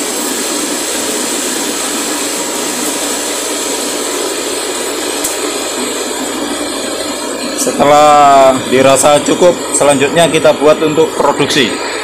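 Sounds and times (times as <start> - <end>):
cotton candy machine whirring: 0.0 - 12.0.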